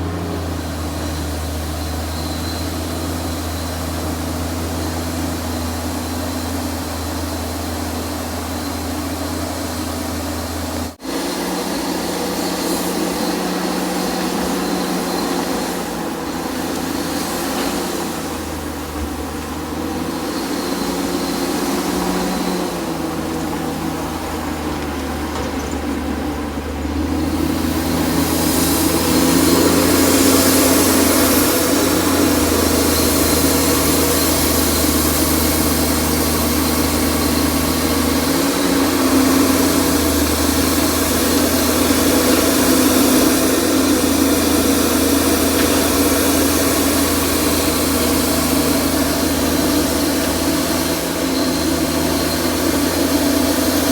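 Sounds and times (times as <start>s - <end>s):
earthmoving machine diesel engine: 0.0s - 53.9s.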